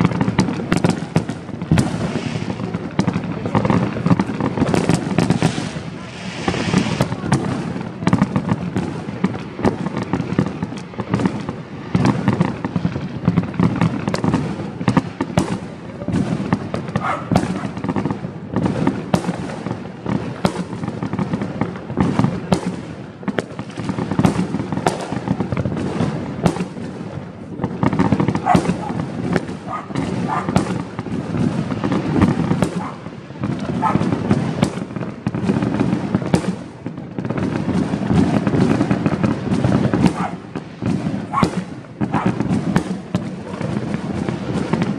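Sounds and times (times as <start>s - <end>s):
distant explosions rolling: 0.0s - 44.9s
fireworks and firecrackers banging: 0.0s - 44.9s.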